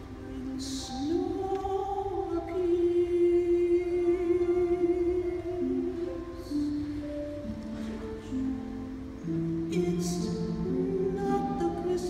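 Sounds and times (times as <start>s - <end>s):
orchestral accompaniment: 0.0s - 12.0s
soprano singing: 0.0s - 12.0s.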